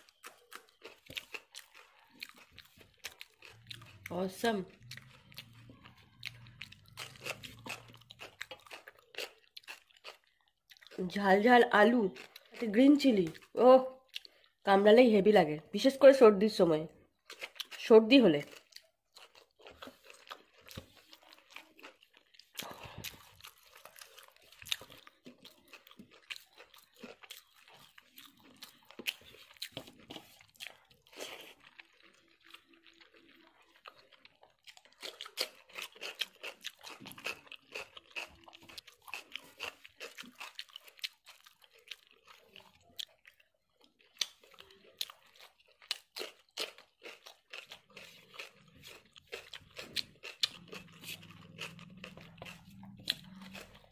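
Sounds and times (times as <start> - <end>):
wet chewing and mouth sounds: 0.0 - 14.7, 17.0 - 53.9.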